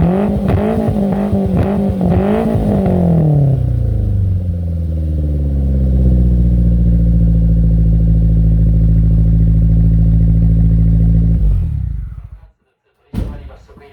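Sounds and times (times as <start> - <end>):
car engine idling: 0.0 - 12.4.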